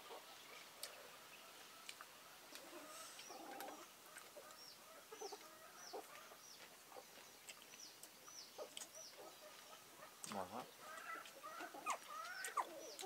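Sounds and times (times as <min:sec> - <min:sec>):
chickens clucking: 0:00.0 - 0:13.0
chicks peeping: 0:01.7 - 0:13.0.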